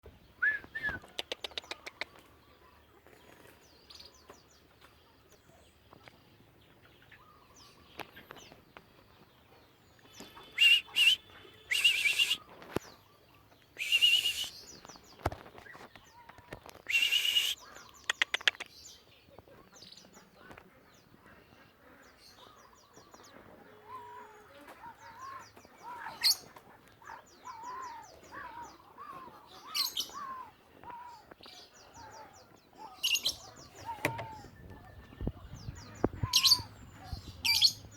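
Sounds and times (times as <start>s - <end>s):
bird chirping: 0.0s - 37.9s
harsh rasping bird calls: 0.4s - 4.4s, 9.9s - 19.1s, 19.8s - 37.9s.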